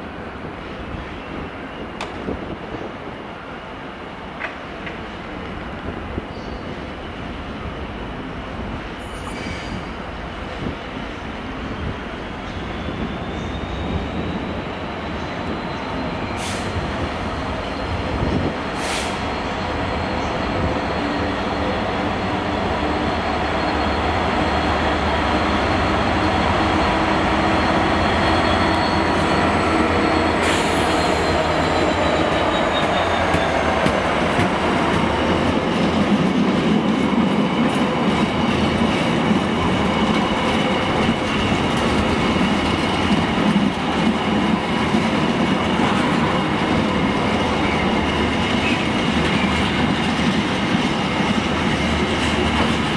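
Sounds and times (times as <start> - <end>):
diesel locomotive passing: 3.1 - 52.9.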